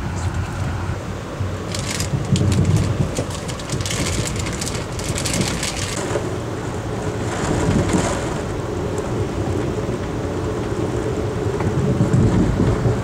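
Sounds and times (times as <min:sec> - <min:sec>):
train low rumble: 0:00.0 - 0:13.0
rain spattering on train car: 0:01.4 - 0:13.0.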